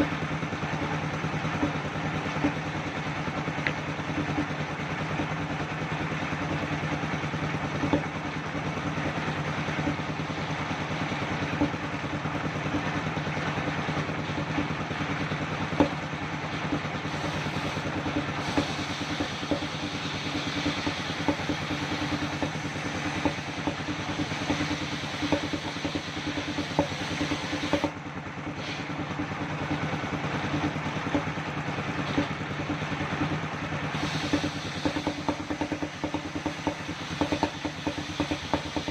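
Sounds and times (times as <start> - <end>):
circular saw whirring: 0.0 - 38.9
engine hum: 0.0 - 38.9.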